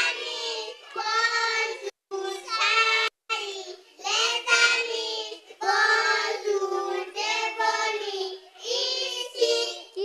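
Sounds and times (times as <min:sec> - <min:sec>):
children singing into a microphone: 0:00.0 - 0:10.0.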